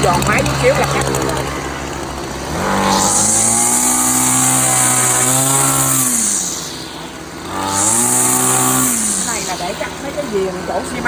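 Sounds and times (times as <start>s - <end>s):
grass trimmer engine revving: 0.0s - 11.0s.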